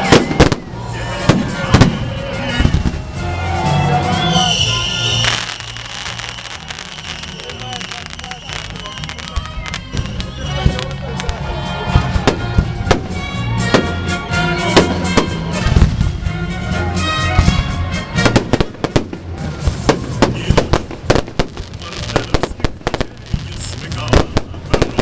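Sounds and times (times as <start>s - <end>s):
fireworks bangs and crackles: 0.0s - 25.0s
music with deep bass: 0.0s - 25.0s.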